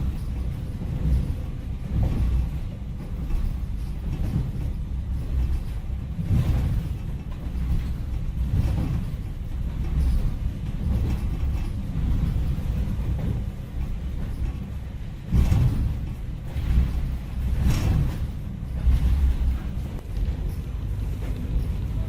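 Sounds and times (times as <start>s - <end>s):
low continuous rumble: 0.0s - 22.0s.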